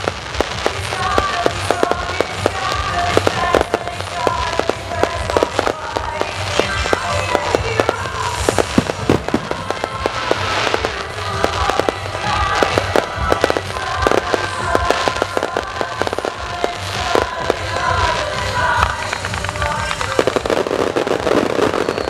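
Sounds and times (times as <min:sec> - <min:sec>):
fireworks popping and banging: 0:00.0 - 0:22.0
music playing: 0:00.0 - 0:22.0.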